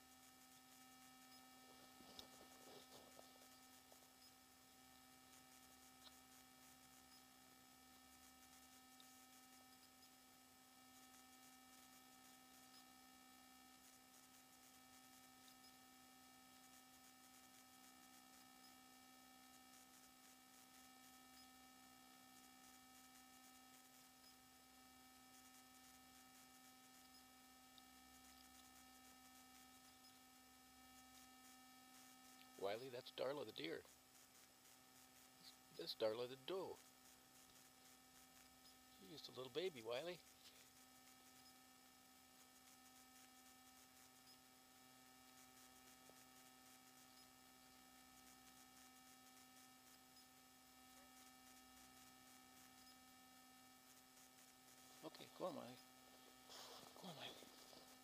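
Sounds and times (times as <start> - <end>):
faint electronic hum: 0.0 - 58.0.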